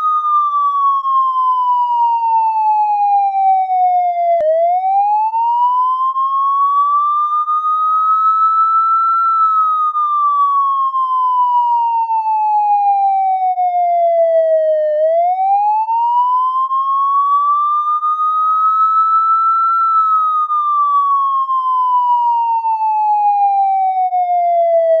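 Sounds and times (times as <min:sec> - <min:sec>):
police siren wailing: 0:00.0 - 0:25.0.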